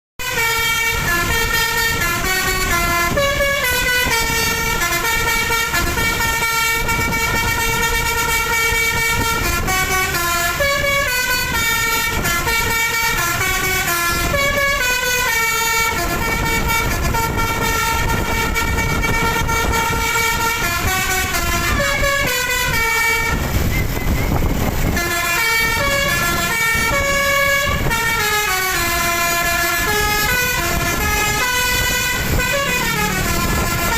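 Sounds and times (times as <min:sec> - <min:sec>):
multi-tone bus air horns melody: 0:00.2 - 0:33.9
low rumbling noise: 0:00.7 - 0:33.9.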